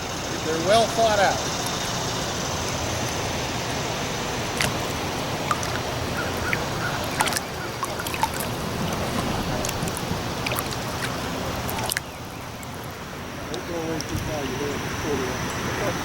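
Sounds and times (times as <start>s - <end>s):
rushing river: 0.0s - 16.0s.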